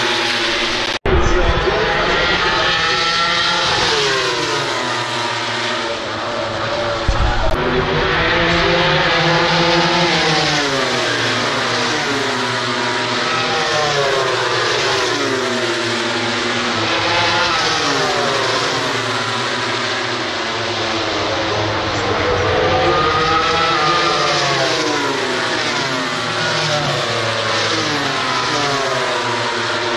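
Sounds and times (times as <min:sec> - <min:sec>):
racing motorcycles at full throttle: 0:00.0 - 0:29.9.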